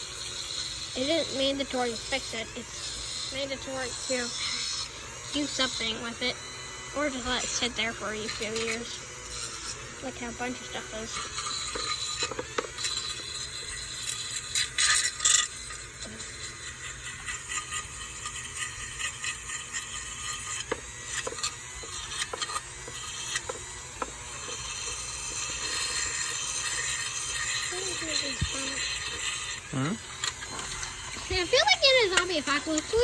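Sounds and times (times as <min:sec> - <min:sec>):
sanding rusty metal: 0:00.0 - 0:33.0
steady low hum: 0:00.0 - 0:33.0.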